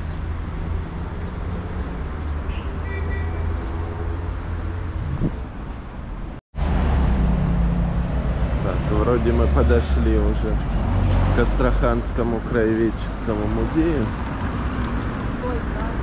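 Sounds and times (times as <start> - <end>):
low rumble of passing cars: 0.0 - 16.0.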